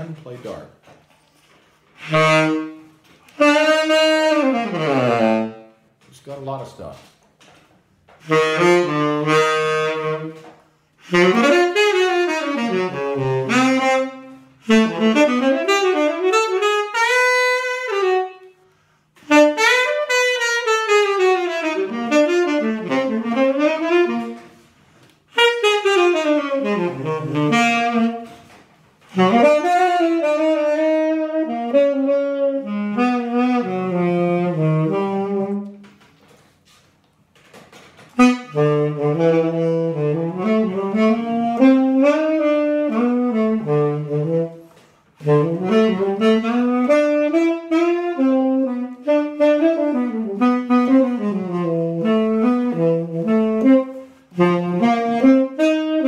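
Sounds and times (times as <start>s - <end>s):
tenor saxophone melody: 0.0s - 6.1s, 6.7s - 56.0s.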